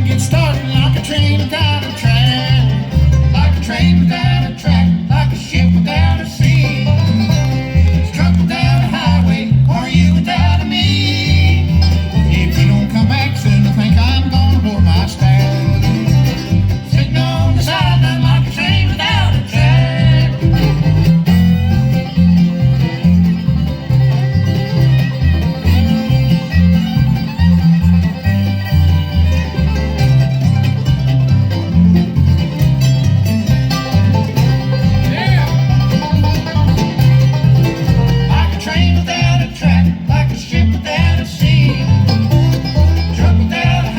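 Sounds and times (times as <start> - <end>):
bluegrass band playing: 0.0 - 43.9.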